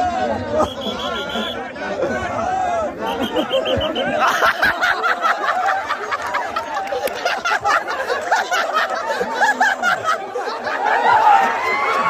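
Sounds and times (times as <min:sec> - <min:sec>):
men chattering: 0:00.3 - 0:11.5
men laughing: 0:00.5 - 0:12.0.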